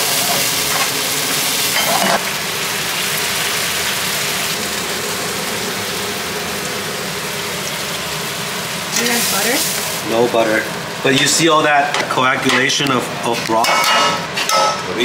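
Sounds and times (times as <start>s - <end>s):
noodles sizzling in hot pan: 0.0s - 13.7s.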